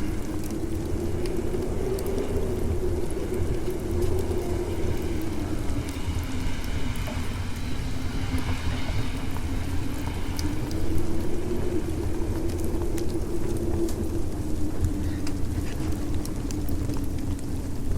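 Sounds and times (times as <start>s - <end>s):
deep rumble: 0.0s - 17.9s
low howling tone: 0.0s - 17.9s
wind blowing: 0.0s - 17.9s.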